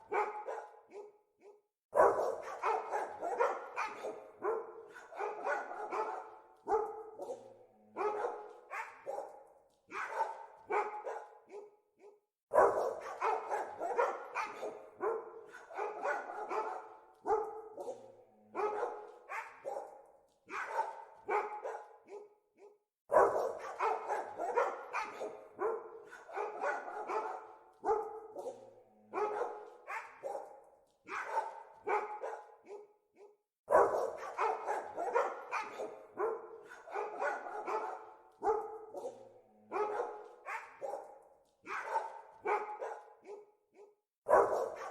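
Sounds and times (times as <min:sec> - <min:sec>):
dogs barking: 0:00.0 - 0:44.9.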